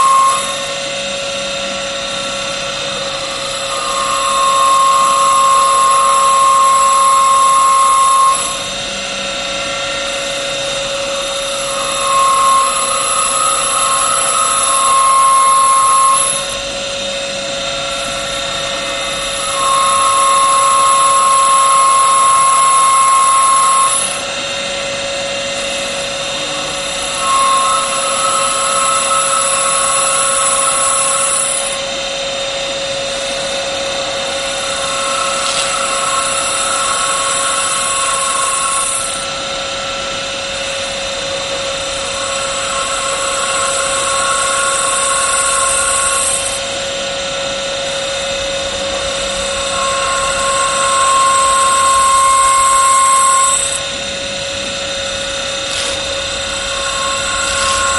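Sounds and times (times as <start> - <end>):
higher-pitched cutting whine: 0.0 - 57.9
lathe motor whine: 0.0 - 57.9.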